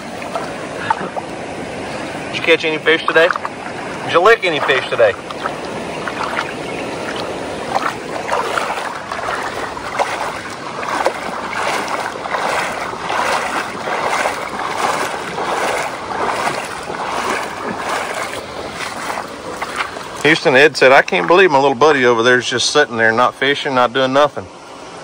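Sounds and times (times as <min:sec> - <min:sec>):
water splashing from wading: 0:00.0 - 0:22.3
rushing creek water: 0:00.0 - 0:25.0.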